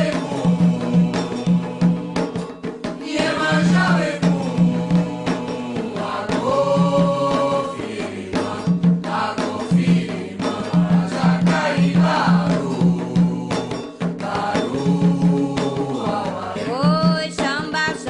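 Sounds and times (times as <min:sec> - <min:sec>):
voices chanting together: 0:00.0 - 0:17.2
pulsing beat: 0:00.0 - 0:18.0.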